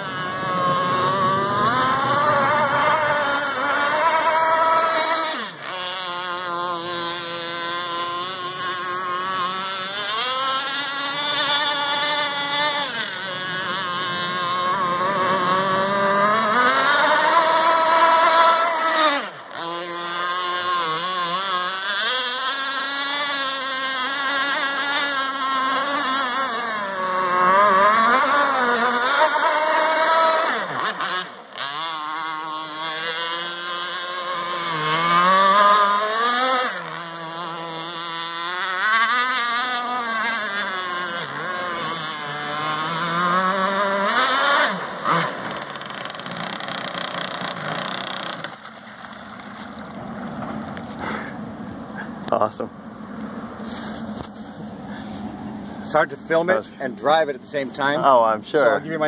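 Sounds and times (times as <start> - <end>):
model boat motor revving: 0.0 - 59.0.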